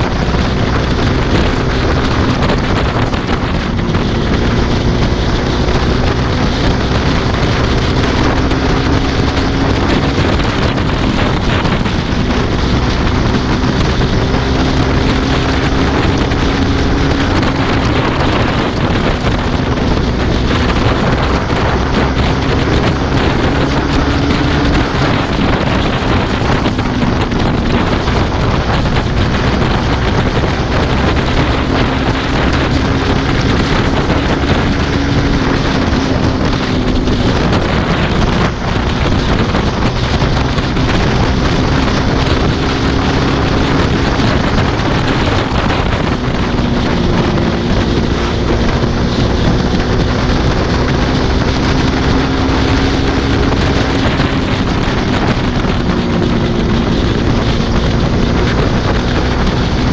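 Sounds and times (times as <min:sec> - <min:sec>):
motorcycle engine droning: 0:00.0 - 0:59.9
wind rush on microphone: 0:00.0 - 0:59.9.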